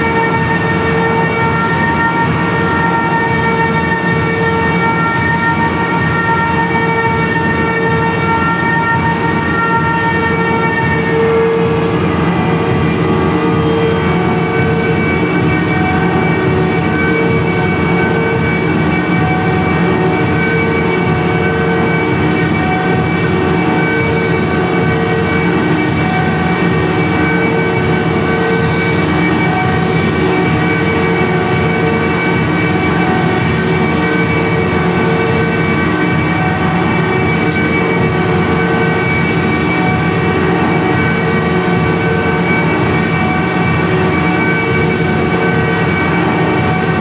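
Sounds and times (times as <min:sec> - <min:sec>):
electronic noise drone: 0:00.0 - 0:47.0.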